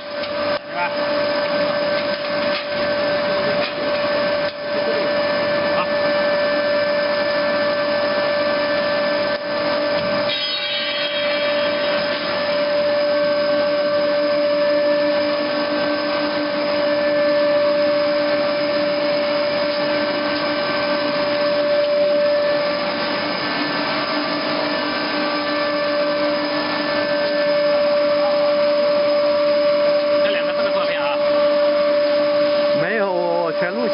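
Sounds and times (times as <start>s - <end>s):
mechanical drone: 0.0s - 33.9s
mid-pitched machine whine: 0.0s - 33.9s.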